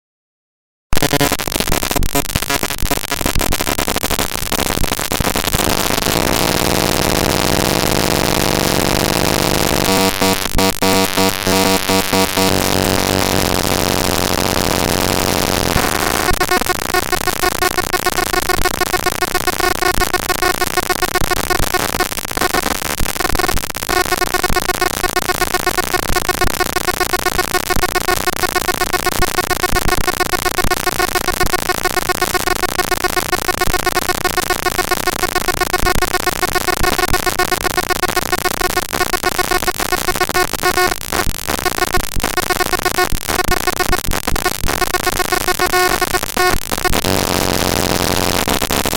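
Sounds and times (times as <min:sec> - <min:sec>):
harsh digital noise: 0:00.9 - 0:48.9
steady buzzing tones: 0:00.9 - 0:48.9.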